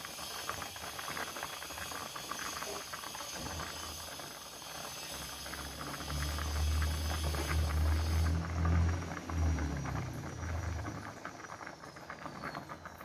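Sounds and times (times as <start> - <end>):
fish bubbling and sizzling in pan: 0.0 - 13.0.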